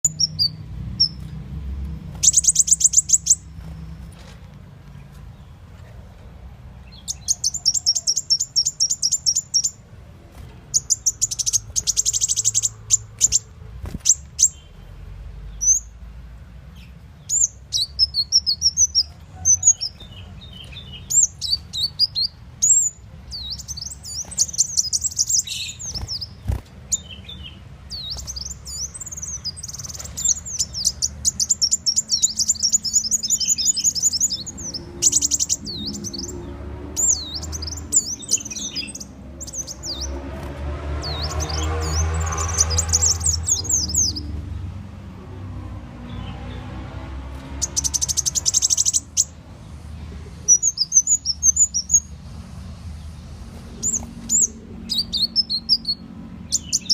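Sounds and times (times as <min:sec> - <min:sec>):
sunbird buzzy trills and chatter: 0:02.0 - 0:16.0, 0:16.7 - 0:44.6, 0:47.3 - 0:56.9.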